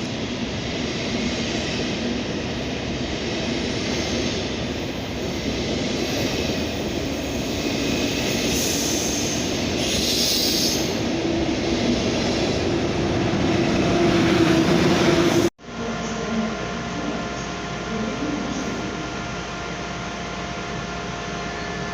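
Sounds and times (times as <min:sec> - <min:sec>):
train running past: 0:00.0 - 0:21.9.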